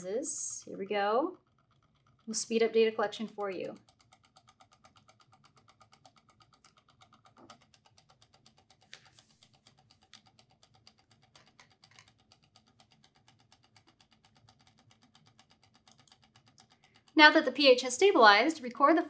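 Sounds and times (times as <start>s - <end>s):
fast faint ticking: 0.6s - 18.8s.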